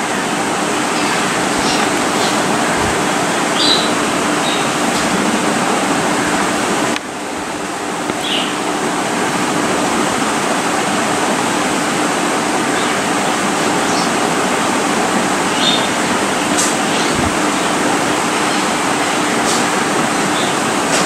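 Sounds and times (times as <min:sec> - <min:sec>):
loud background hiss: 0:00.0 - 0:21.0.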